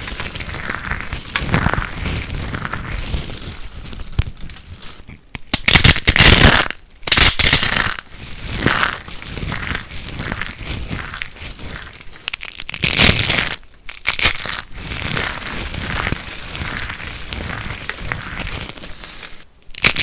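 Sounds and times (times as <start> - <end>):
dry soap crunching: 0.0 - 20.0.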